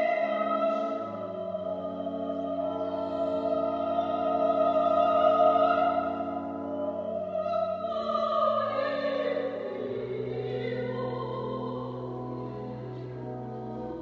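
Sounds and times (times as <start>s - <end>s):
pipe organ playing chords: 0.0s - 14.0s.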